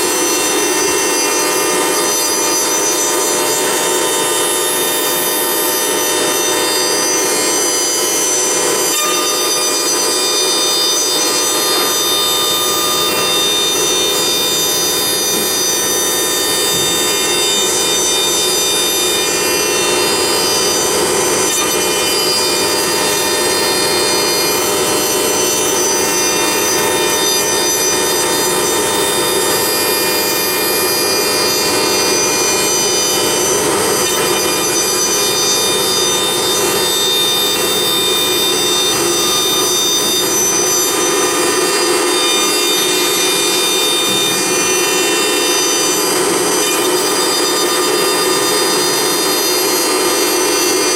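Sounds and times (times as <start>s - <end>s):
cutter rasping in wood: 0.0s - 50.9s
spindle whine: 0.0s - 50.9s.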